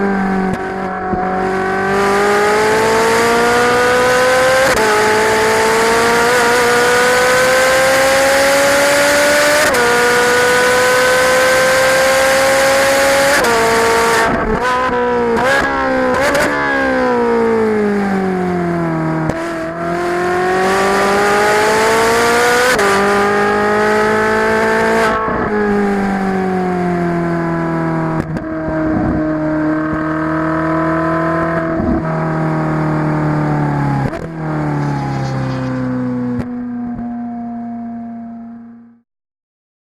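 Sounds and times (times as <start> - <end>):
car engine revving: 0.0 - 37.8
throttle blips on downshifts: 0.0 - 39.0.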